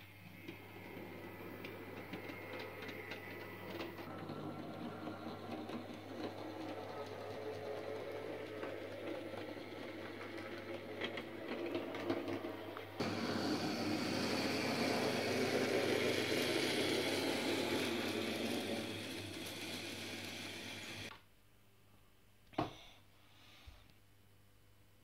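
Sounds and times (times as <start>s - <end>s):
wheels clicking on track: 0.3s - 21.1s
model train motor whirring: 0.4s - 21.1s.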